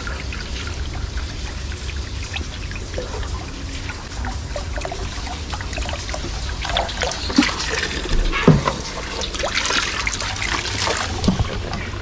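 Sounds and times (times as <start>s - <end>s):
water splashing in tub: 0.0s - 12.0s.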